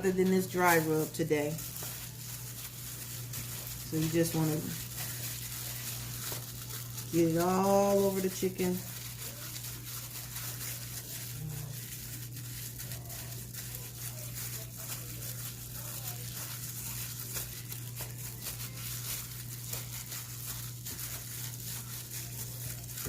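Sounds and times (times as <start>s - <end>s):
plastic glove crinkling: 0.0s - 23.0s.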